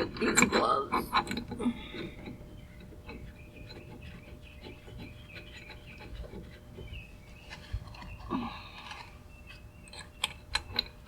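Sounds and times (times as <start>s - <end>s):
hardware clicks and rubbing: 0.0s - 11.0s.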